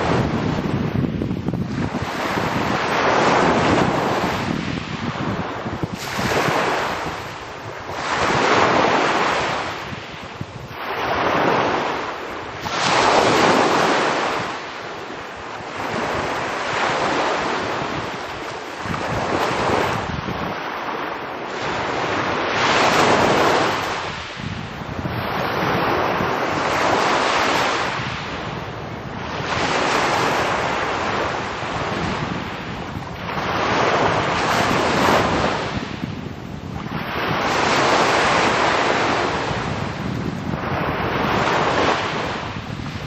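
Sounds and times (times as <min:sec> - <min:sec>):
waves washing on pebble beach: 0:00.0 - 0:43.0.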